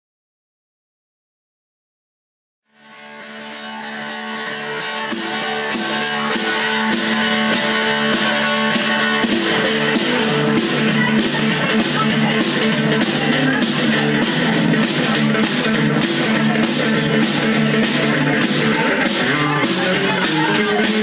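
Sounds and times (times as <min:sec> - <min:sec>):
electric guitar playing: 0:02.7 - 0:21.0.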